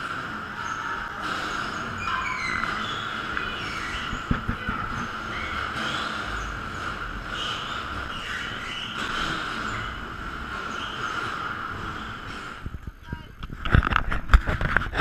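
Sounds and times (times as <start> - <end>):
electric motors whining: 0.0 - 12.8
continuous rumbling: 0.0 - 15.0.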